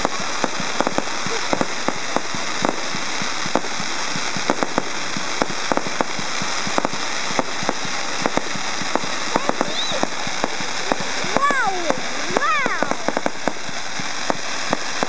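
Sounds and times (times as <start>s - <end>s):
fireworks popping and crackling: 0.0s - 15.0s
steady hiss: 0.0s - 15.0s.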